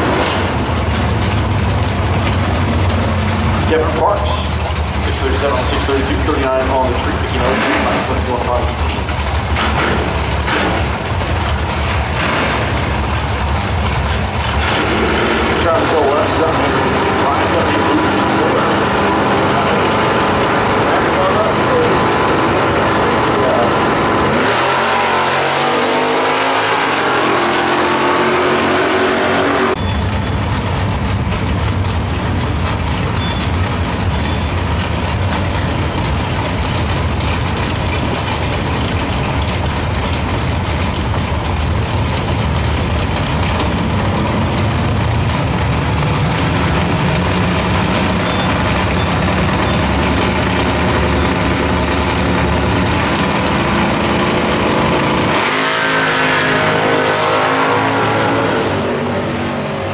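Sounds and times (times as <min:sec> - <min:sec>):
drag car engines idling: 0:00.0 - 0:28.2, 0:29.7 - 0:59.9
drag cars accelerating: 0:00.0 - 0:59.9.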